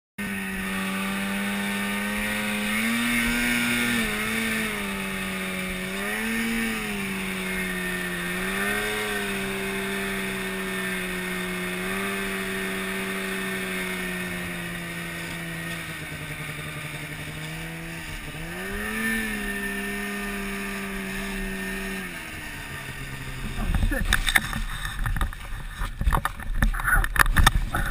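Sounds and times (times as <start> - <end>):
snowmobile engine revving: 0.2 - 27.9.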